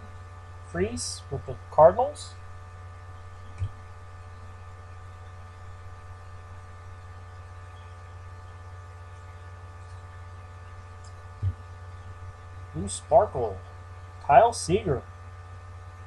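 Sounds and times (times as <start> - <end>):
electrical mains hum: 0.0 - 16.0
faint constant whine: 0.0 - 16.0.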